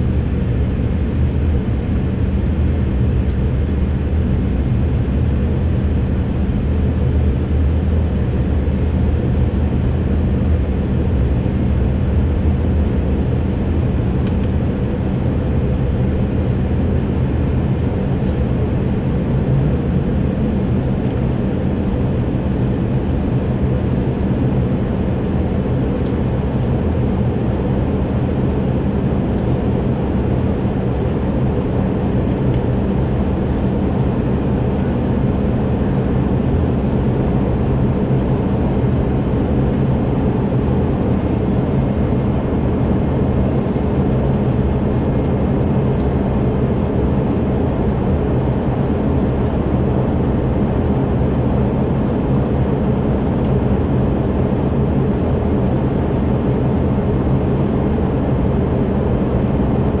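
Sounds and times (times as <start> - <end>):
airflow rumble in plane cabin: 0.0 - 60.0
low hum of jet engines: 0.0 - 60.0.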